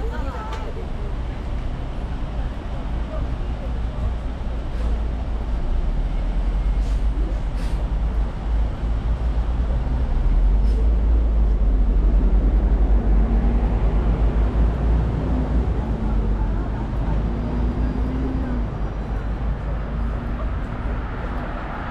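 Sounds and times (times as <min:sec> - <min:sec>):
low outdoor rumble: 0:00.0 - 0:21.9.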